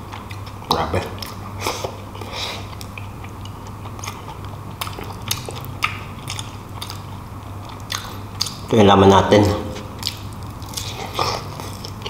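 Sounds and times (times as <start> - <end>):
chewing and lip smacking: 0.0 - 8.7, 9.7 - 12.0
steady low hum: 0.0 - 12.0.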